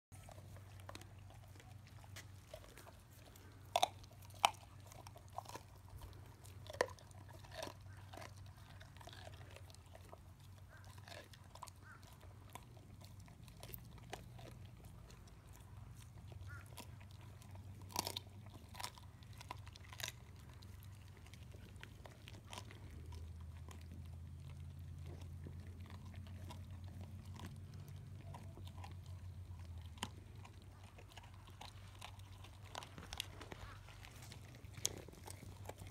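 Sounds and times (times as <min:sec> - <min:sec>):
dogs chewing and crunching: 0:00.1 - 0:35.9
low steady hum: 0:00.1 - 0:35.9.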